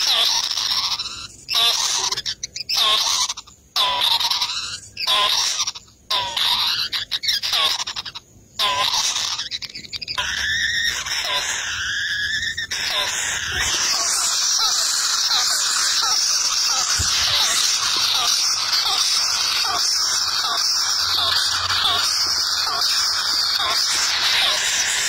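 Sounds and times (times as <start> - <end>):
nestlings squealing: 0.0 - 25.0.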